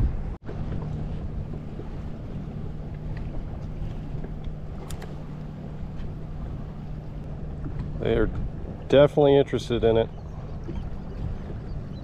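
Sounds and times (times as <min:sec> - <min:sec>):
steady low hum: 0:00.0 - 0:12.0
wind on microphone: 0:00.0 - 0:12.0.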